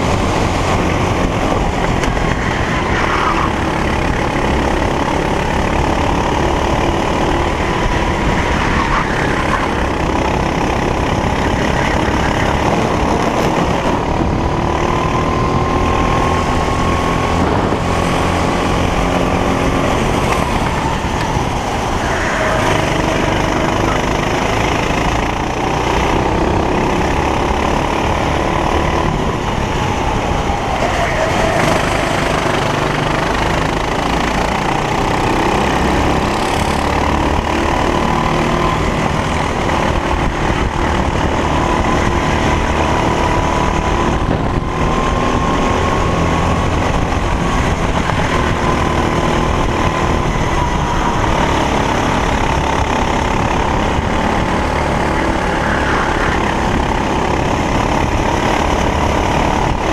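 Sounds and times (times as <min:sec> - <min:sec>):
racing kart engine: 0:00.0 - 0:59.9
road noise: 0:00.0 - 0:59.9
wind noise: 0:00.0 - 0:59.9.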